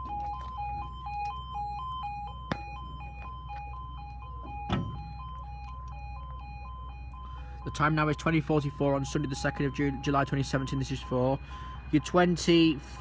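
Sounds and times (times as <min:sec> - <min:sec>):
level crossing alarm warbling: 0:00.0 - 0:13.0.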